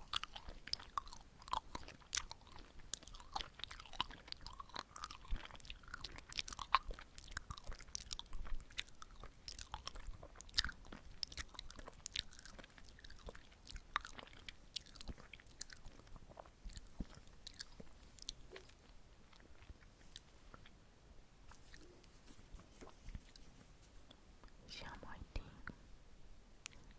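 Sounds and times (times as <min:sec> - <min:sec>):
sticky chewing mouth sounds: 0:00.0 - 0:20.7, 0:21.5 - 0:25.8.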